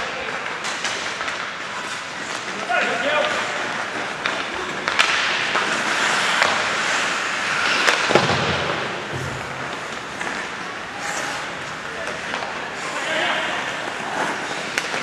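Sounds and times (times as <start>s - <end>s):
hockey sticks and puck cracking: 0.0s - 15.0s
skates scraping on ice: 0.0s - 15.0s.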